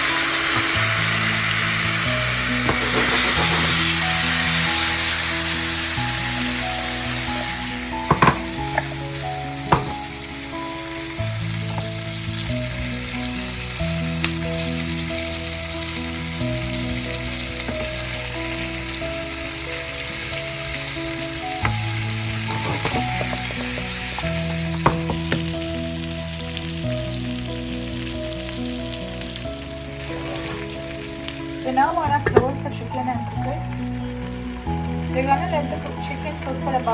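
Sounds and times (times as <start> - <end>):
chicken sizzling in hot oil: 0.0 - 36.9.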